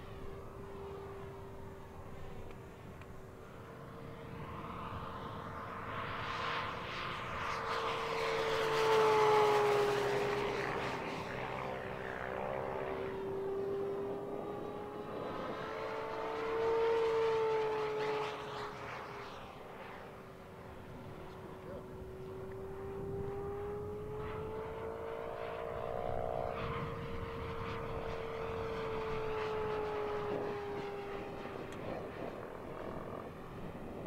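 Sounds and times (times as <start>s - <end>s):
model plane motor whine: 0.0s - 34.0s.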